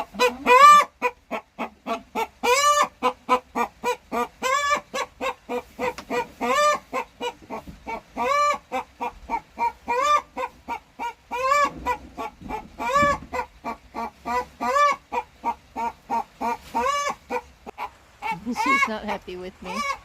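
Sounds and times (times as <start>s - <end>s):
hen clucking agitatedly: 0.0s - 20.0s.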